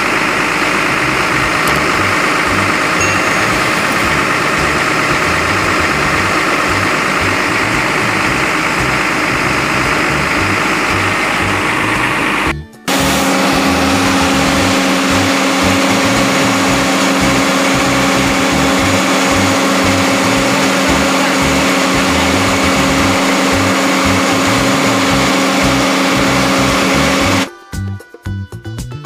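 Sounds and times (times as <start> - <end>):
diesel engine running: 0.0 - 27.5.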